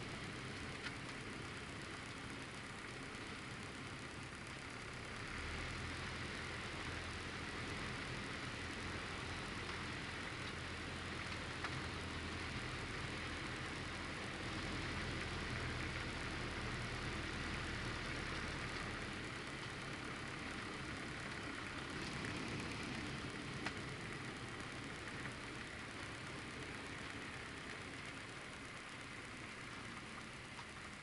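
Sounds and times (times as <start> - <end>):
light aircraft engine and propeller: 0.0 - 31.0.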